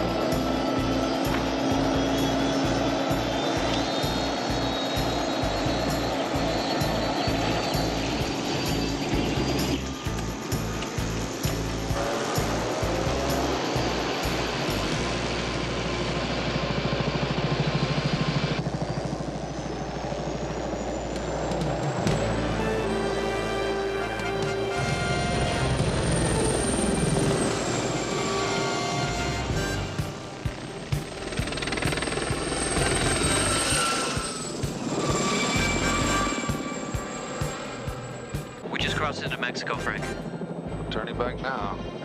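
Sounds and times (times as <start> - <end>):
dramatic music score: 0.0 - 18.5, 20.4 - 42.0
helicopter rotor chop: 0.0 - 42.0.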